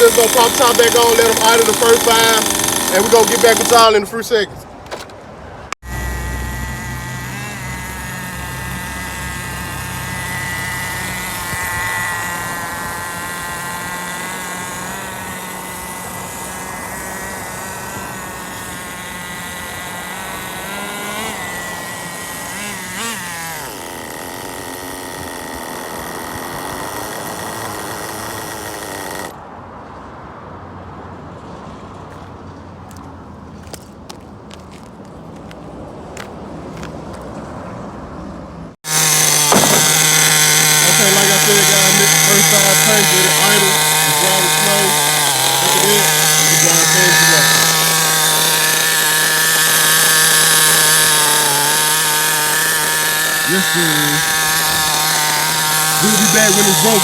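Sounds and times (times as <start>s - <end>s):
small engine idling buzz: 0.0s - 4.1s, 5.8s - 29.4s, 38.8s - 57.0s.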